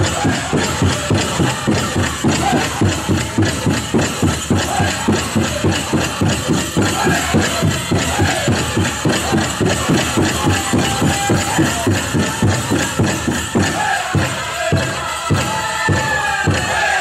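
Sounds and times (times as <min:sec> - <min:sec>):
big drum steady beat: 0:00.0 - 0:17.0
high singing voices: 0:00.0 - 0:17.0.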